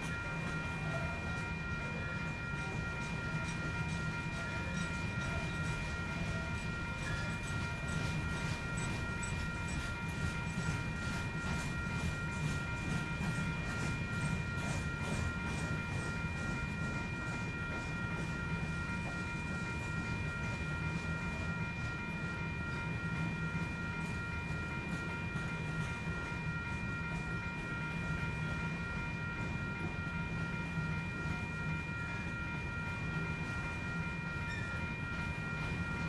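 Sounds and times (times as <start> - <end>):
steady high-pitched whine: 0.0 - 36.0.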